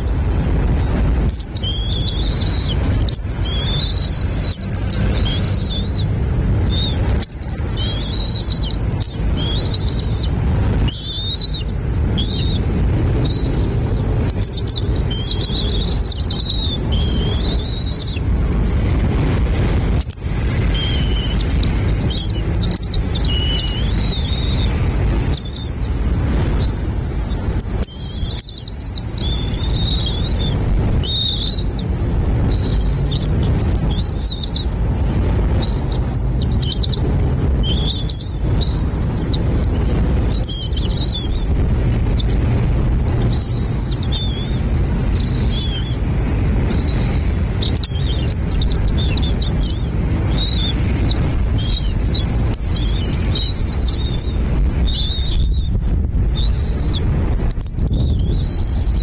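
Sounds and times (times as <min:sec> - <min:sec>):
steady low rumble: 0:00.0 - 0:59.0
young birds chirping: 0:00.0 - 0:59.0.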